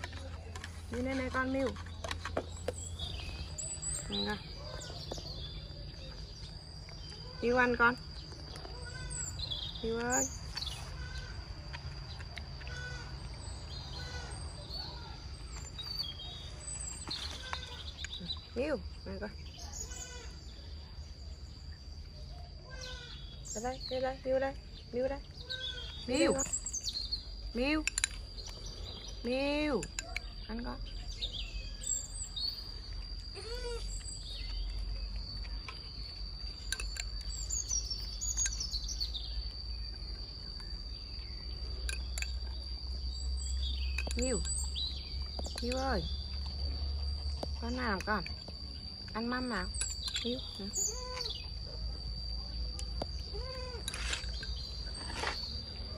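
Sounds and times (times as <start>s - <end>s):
bird chirps: 0.0s - 55.9s.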